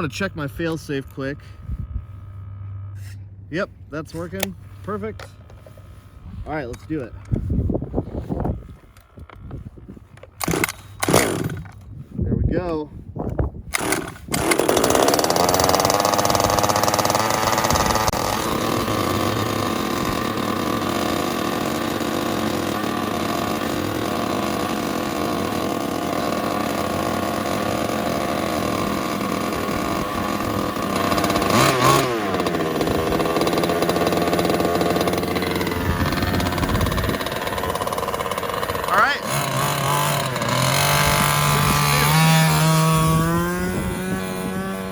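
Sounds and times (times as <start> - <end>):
small two-stroke engine running: 2.1 - 3.4, 4.0 - 7.5, 8.4 - 11.9, 13.7 - 44.9.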